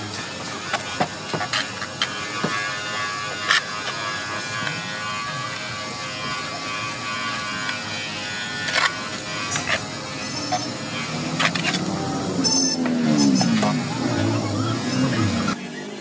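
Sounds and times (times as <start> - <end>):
buffing motor humming: 0.0 - 15.6.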